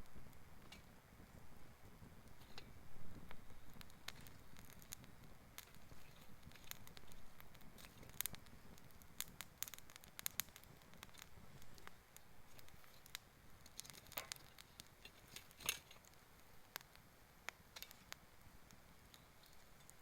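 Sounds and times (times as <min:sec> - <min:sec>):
campfire crackling: 0:00.0 - 0:20.0
sharp pops from fire: 0:00.0 - 0:20.0.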